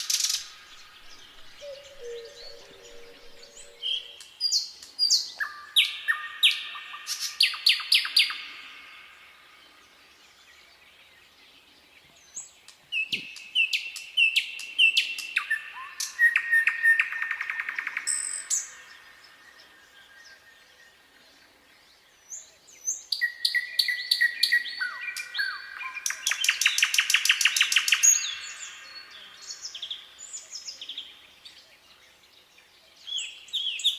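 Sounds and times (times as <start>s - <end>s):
nightingale singing: 0.0s - 21.2s, 21.8s - 33.9s.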